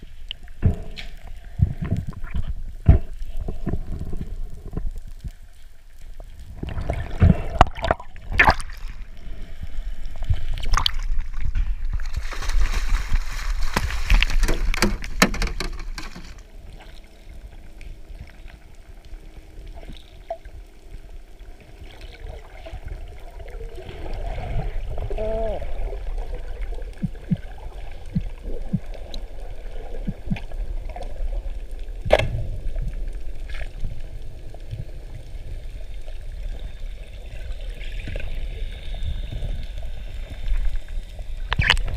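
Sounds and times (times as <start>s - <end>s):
underwater water rushing and bubbling: 0.0s - 41.9s.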